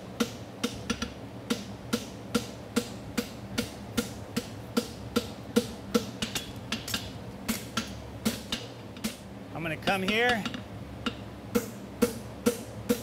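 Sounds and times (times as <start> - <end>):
cooling fan hum: 0.0 - 13.0.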